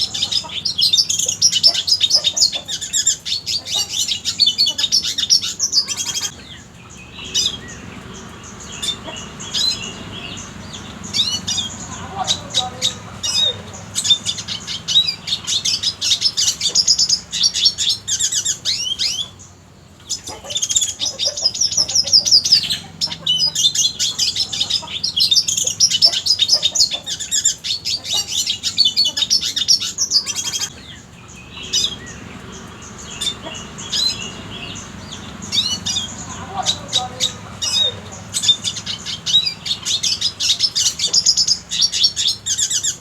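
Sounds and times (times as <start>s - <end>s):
bird twittering song: 0.0s - 43.0s.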